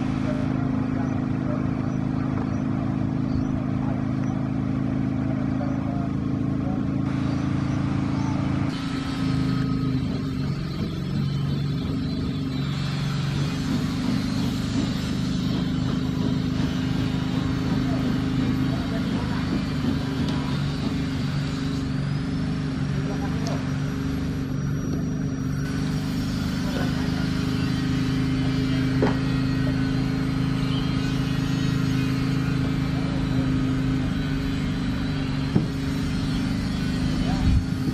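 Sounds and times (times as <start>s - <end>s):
engine humming: 0.0s - 37.9s
train approaching with low drone: 5.8s - 37.9s.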